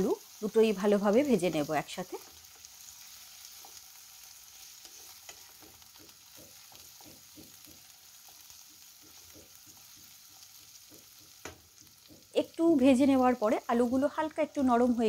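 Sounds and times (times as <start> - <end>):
potatoes sizzling in hot oil: 0.0 - 15.0
spatula stirring in pan: 0.2 - 13.1.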